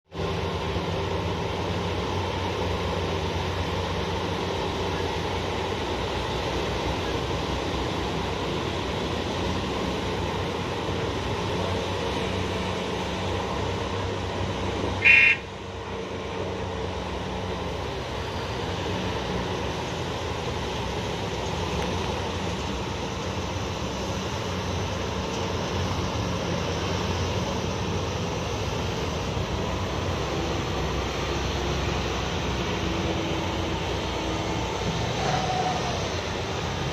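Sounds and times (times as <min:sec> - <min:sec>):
large diesel engines running: 0:00.1 - 0:36.9.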